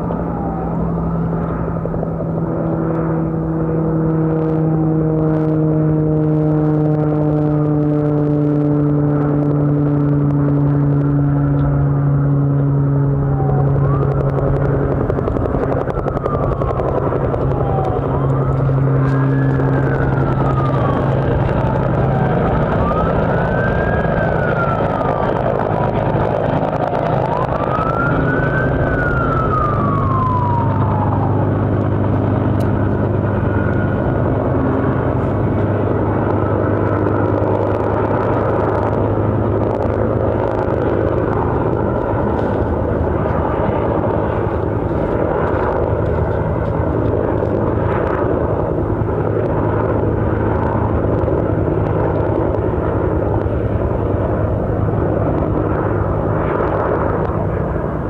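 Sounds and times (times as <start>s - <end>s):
emergency vehicle siren wailing: 0.0s - 58.0s
low engine drone: 0.0s - 58.0s.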